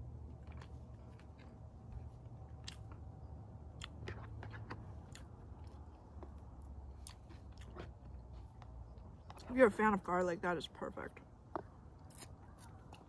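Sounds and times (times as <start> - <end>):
close-miked chewing: 0.0 - 10.0, 11.1 - 13.0
steady low rumble: 0.0 - 13.0.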